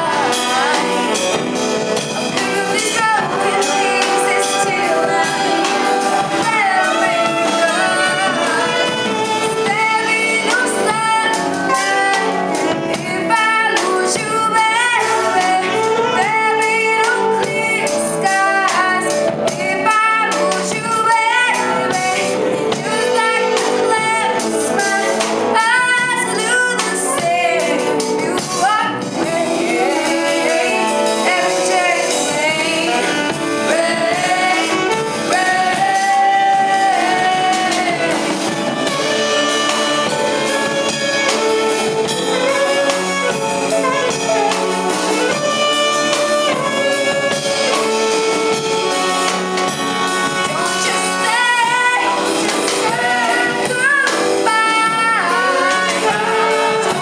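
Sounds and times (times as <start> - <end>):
alto saxophone melody: 0.0 - 57.0
live band playing pop ballad: 0.0 - 57.0
person singing: 0.0 - 57.0.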